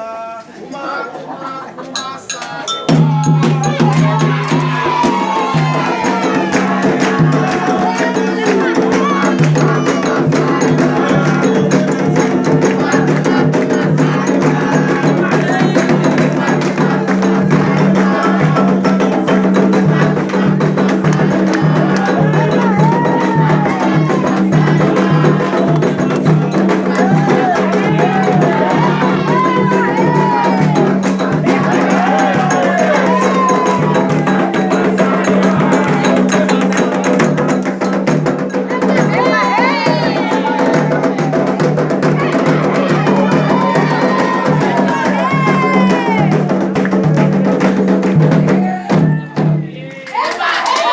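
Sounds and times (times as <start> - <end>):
sung voices: 0.0 - 50.9
hand drums fast rhythm: 2.0 - 49.8.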